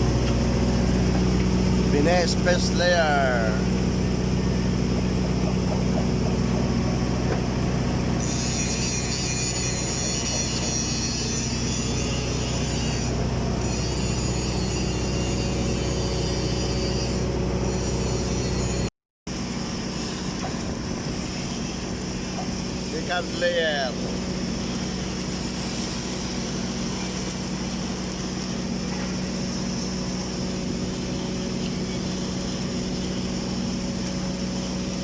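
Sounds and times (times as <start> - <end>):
welding machine hum: 0.0 - 18.7, 19.3 - 35.0.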